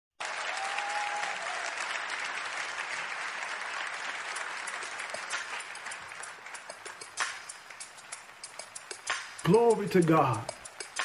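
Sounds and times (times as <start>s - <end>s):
congregation applauding: 0.2s - 10.6s.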